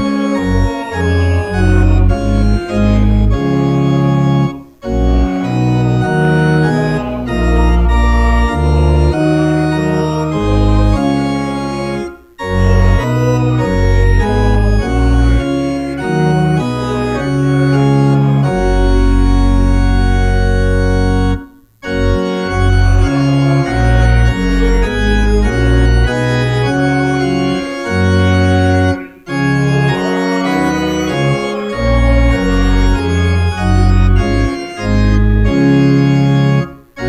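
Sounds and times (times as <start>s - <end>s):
church organ playing a hymn: 0.0s - 37.0s.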